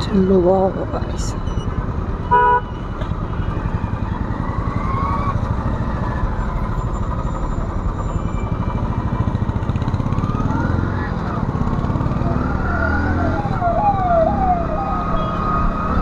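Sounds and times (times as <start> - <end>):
motorcycle engines running: 0.0 - 16.0.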